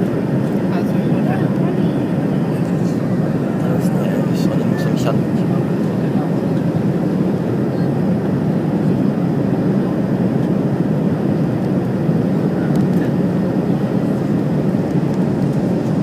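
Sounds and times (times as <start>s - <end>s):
jet airliner cabin drone: 0.0s - 16.0s.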